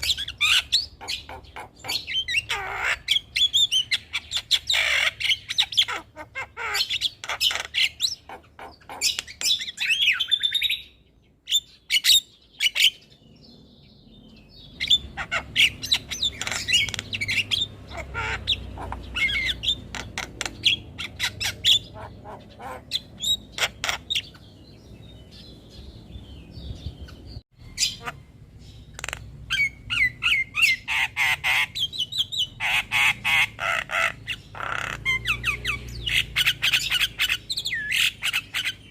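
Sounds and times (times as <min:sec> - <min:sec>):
mynas chattering and calling: 0:00.0 - 0:10.5, 0:14.7 - 0:24.6, 0:27.7 - 0:38.9.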